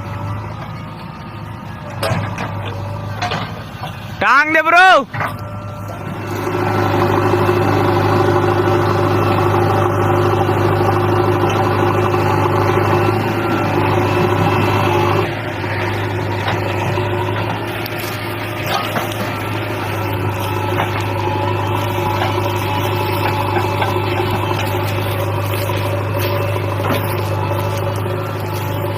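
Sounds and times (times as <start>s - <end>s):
diesel engine droning: 0.0s - 28.9s.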